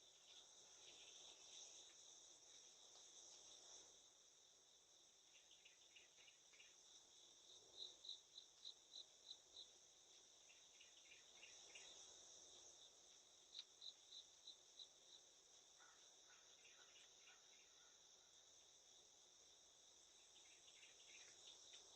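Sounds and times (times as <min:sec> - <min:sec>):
crickets trilling: 0:00.0 - 0:21.9
evenly spaced insect chirps: 0:00.1 - 0:17.1, 0:19.5 - 0:21.9.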